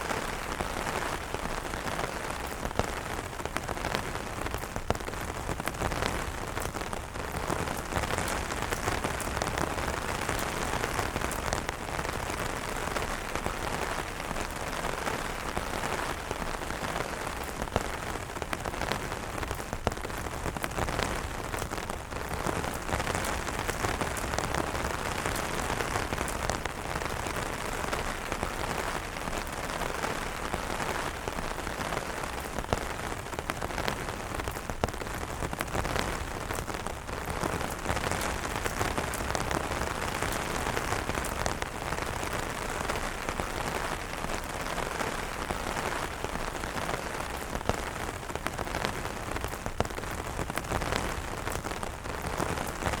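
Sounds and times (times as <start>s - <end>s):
rain hiss: 0.0s - 53.0s
raindrops tapping on umbrella fabric: 0.0s - 53.0s.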